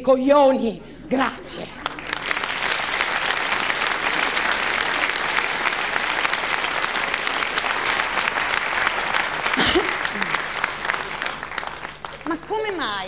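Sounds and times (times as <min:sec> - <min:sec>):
audience applauding: 0:01.2 - 0:13.0.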